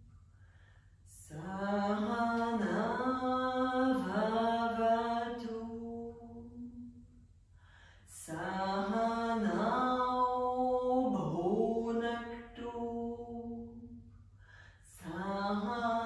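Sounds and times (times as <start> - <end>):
woman chanting: 1.1 - 7.0, 8.1 - 14.0, 14.8 - 16.0.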